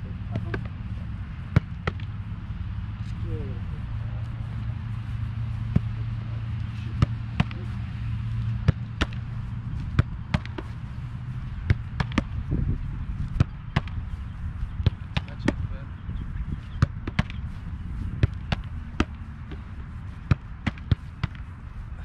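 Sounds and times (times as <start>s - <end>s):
steady low hum: 0.0s - 22.0s
soccer ball being kicked: 0.2s - 2.3s, 3.8s - 22.0s.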